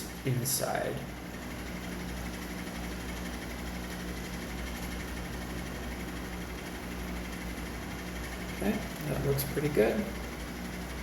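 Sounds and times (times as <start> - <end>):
low machine hum with hiss: 0.0 - 11.0.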